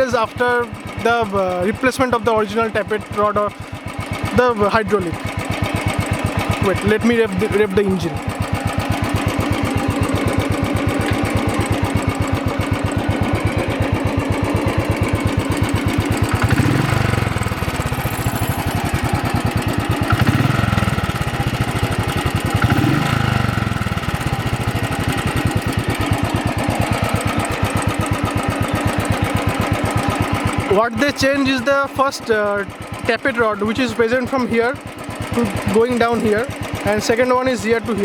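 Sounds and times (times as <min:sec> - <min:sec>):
engine tappet noise: 0:00.0 - 0:38.0
motorcycle engine idling and revving: 0:00.0 - 0:38.0.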